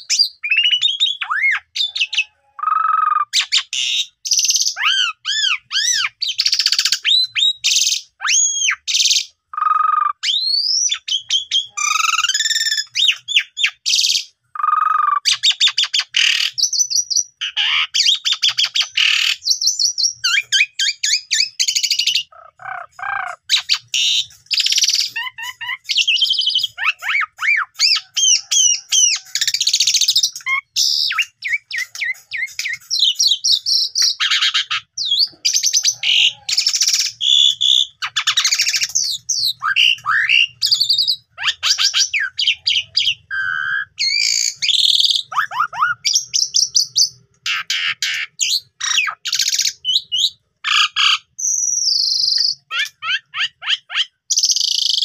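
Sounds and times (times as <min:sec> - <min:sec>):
starling singing whistles and chatter: 0:00.0 - 0:55.0.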